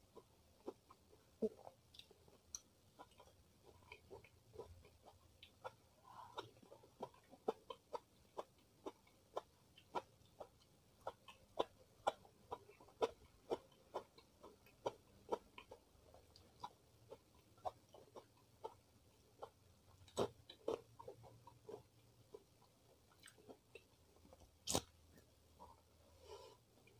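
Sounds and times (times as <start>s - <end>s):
chewing crisp food: 0.0s - 26.9s.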